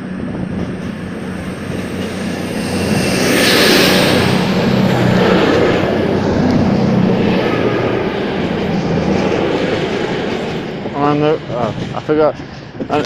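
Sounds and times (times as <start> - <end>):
diesel engine drone: 0.0 - 13.0
diesel train passing: 0.0 - 13.0.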